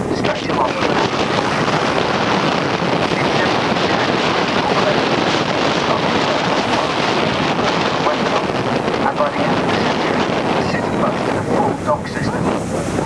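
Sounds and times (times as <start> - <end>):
wind blowing over microphone: 0.0 - 13.0.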